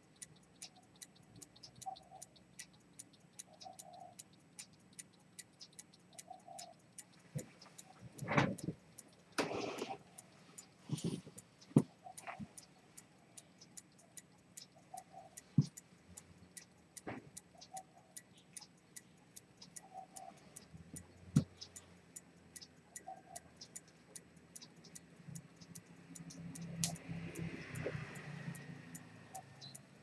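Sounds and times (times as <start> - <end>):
pocket watch ticking: 0.0 - 30.0.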